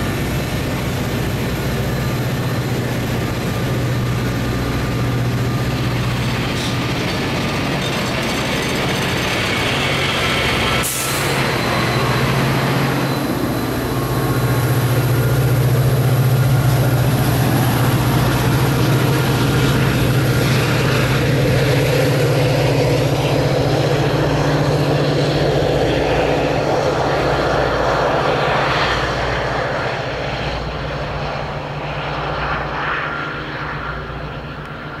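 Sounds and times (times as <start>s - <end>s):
train coaches rolling on rails: 0.0s - 32.6s
diesel locomotive engine drone: 0.0s - 35.0s.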